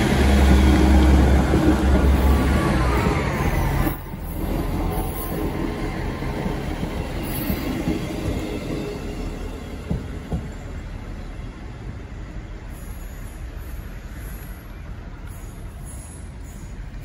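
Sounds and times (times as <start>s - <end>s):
diesel train running past: 0.0s - 17.0s.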